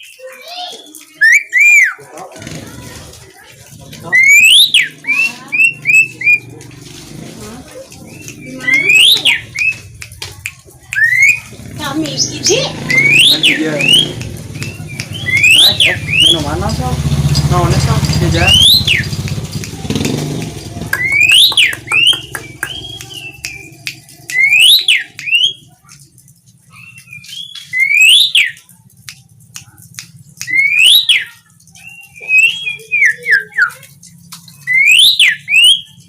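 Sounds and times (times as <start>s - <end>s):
starling whistling song: 0.0s - 2.0s, 4.0s - 6.7s, 8.0s - 25.9s, 26.7s - 28.7s, 29.6s - 33.9s, 34.5s - 36.0s
bird clicking chatter: 0.0s - 36.0s.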